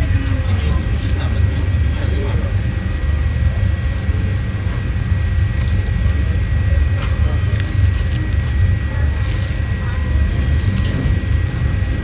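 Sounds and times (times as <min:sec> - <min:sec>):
jet airliner rumble: 0:00.0 - 0:12.0.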